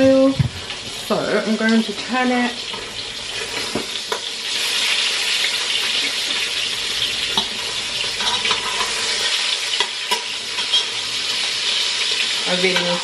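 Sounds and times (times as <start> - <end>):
fish sizzling in a frying pan: 0.0 - 13.0.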